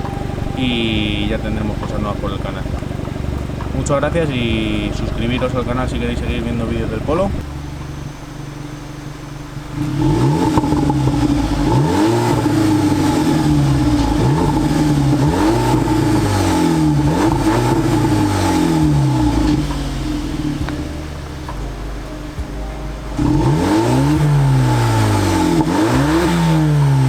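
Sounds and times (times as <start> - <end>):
car exhaust idling and revving: 0.0 - 27.0.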